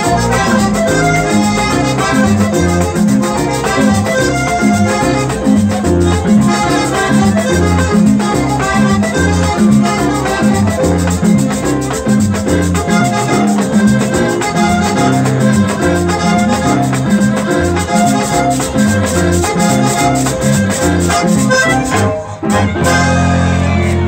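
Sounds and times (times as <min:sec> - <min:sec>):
cumbia music with percussion: 0:00.0 - 0:24.0.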